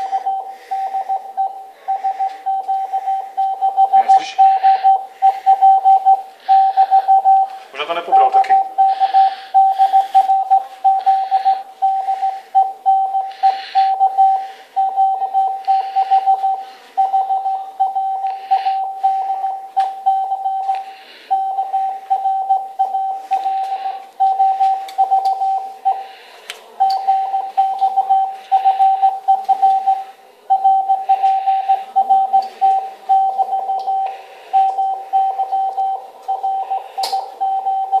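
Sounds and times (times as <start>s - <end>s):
morse code tone: 0.0s - 26.2s, 26.8s - 38.0s.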